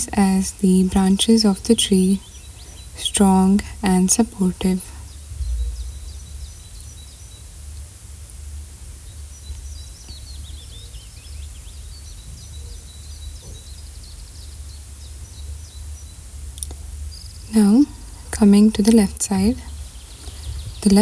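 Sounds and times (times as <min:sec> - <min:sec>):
low rumble and hiss: 0:00.0 - 0:21.0
small birds chirping: 0:00.0 - 0:21.0.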